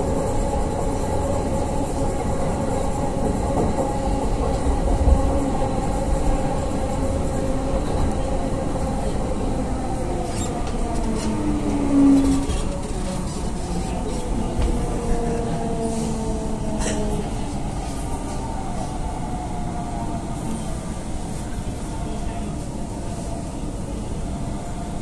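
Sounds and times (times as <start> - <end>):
rumble of train wheels on rail: 0.0 - 25.0.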